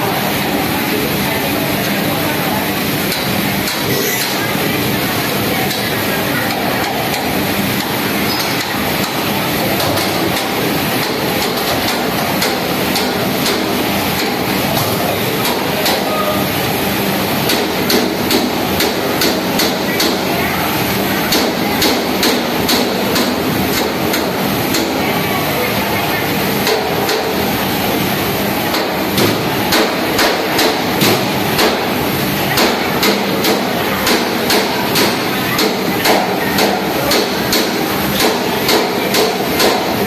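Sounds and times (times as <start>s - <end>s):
industrial washing machinery running: 0.0s - 40.0s.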